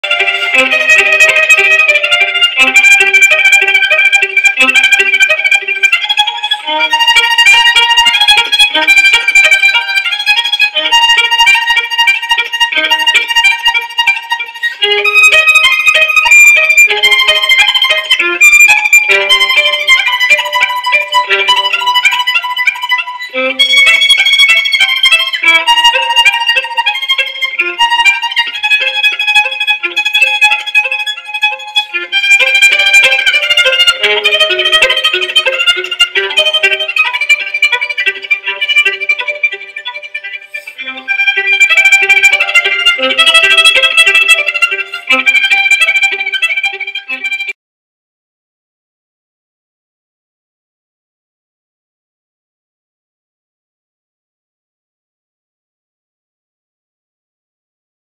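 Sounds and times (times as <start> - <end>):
instrumental music with quick notes: 0.0 - 47.6.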